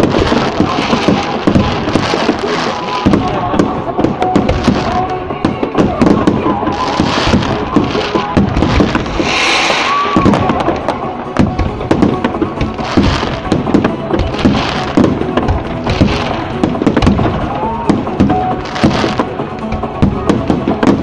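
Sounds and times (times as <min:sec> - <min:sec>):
fireworks bangs: 0:00.0 - 0:21.0
fireworks crackling and hissing: 0:00.0 - 0:21.0.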